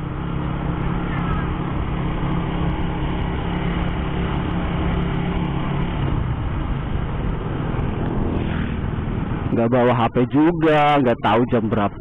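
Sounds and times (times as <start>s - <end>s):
wind rush: 0.0s - 10.1s
motorcycle engine running: 0.0s - 12.0s
road noise: 0.0s - 12.0s.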